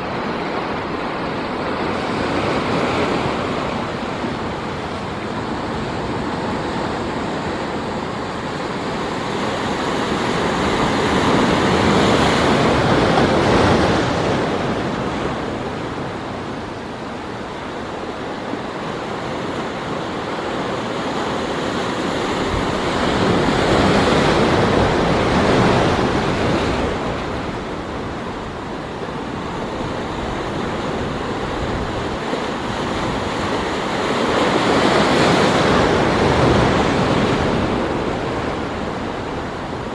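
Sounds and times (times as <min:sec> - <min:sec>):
surf breaking on rocky shore: 0:00.0 - 0:39.9.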